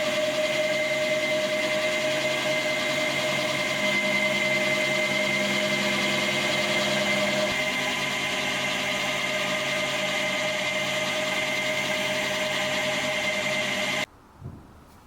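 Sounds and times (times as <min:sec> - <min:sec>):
workshop machine motor whine: 0:00.0 - 0:14.1.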